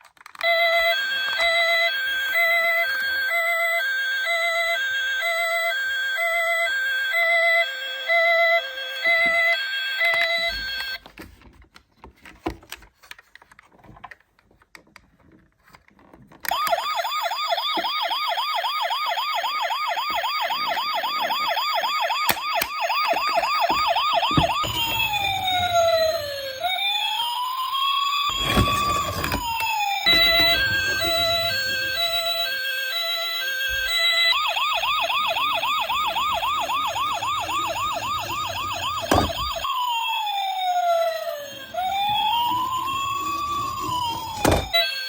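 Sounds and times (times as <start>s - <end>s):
electronic ambulance siren: 0.4s - 11.0s, 16.5s - 45.0s.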